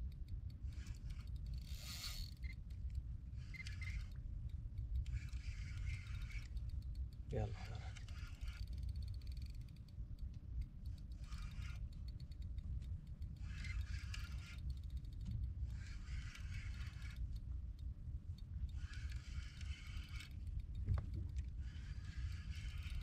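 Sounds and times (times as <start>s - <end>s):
fishing reel rasping: 0.0s - 23.0s.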